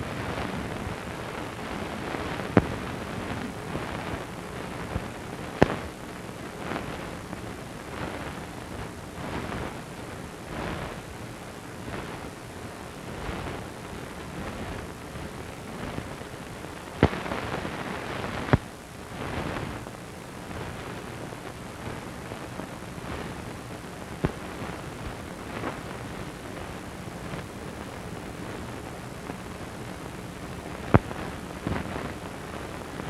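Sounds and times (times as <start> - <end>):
crackling film soundtrack hiss: 0.0 - 33.0.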